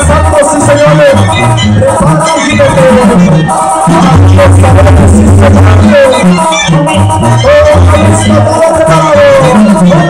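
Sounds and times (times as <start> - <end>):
live latin band playing: 0.0 - 10.0.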